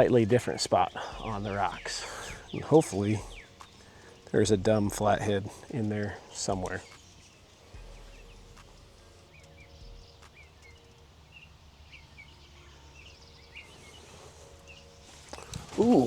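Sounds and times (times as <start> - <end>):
low steady hum: 0.0 - 16.0
small bird chirping: 0.0 - 16.0.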